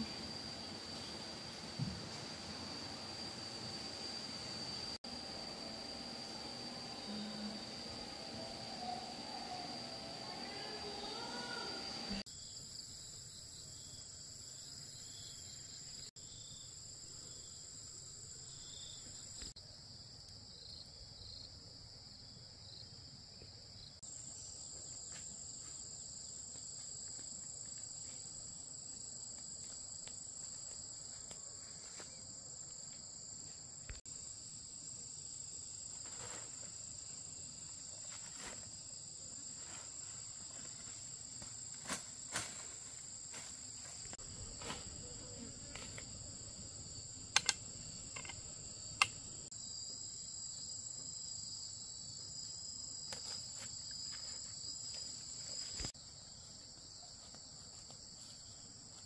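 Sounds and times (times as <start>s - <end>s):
insect chorus chirring: 0.0s - 59.0s.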